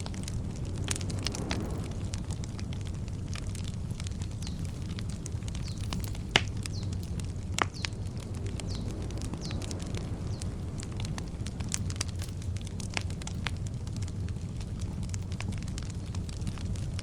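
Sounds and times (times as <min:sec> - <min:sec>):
campfire crackling: 0:00.0 - 0:17.0
sharp pops of burning wood: 0:00.0 - 0:17.0.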